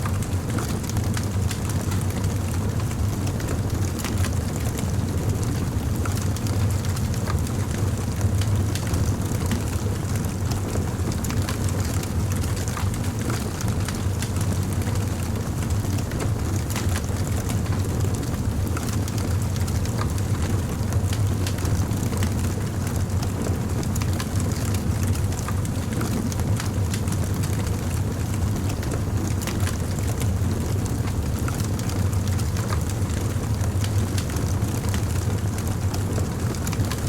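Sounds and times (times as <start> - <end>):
fire crackling and popping: 0.2 - 37.0.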